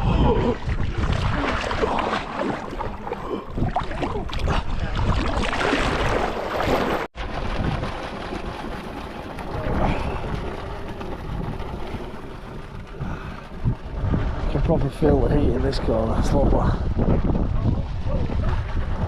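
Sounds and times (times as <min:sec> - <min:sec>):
wind buffeting microphone: 0:00.0 - 0:02.0, 0:02.7 - 0:06.2, 0:07.2 - 0:19.0.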